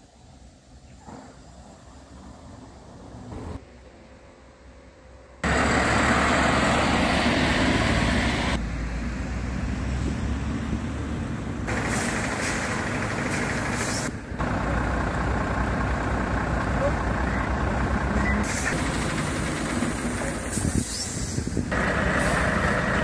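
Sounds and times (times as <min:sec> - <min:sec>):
truck diesel engines running: 0:02.0 - 0:23.0.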